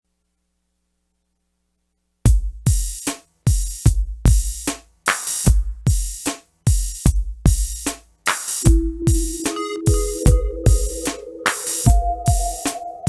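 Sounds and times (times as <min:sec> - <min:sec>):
drum machine beat: 0:02.3 - 0:13.0.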